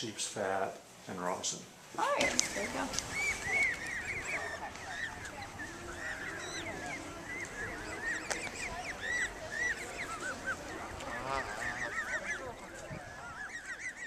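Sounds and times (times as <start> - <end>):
goslings peeping: 2.0 - 14.0.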